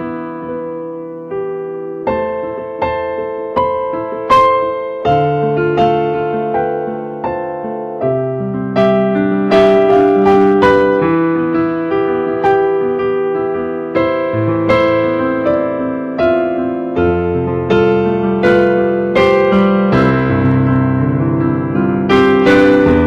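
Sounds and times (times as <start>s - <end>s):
slow electric piano music: 0.0s - 23.0s.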